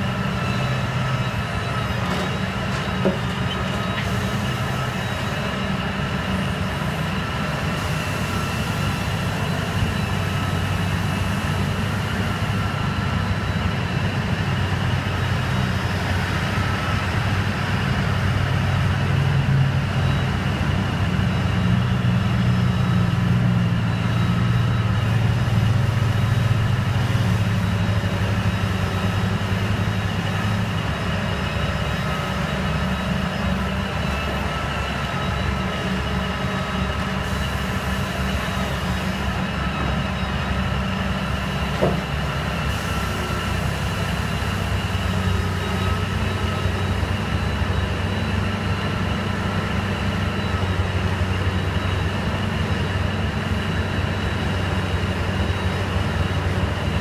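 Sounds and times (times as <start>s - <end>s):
excavator diesel engine droning: 0.0s - 57.0s.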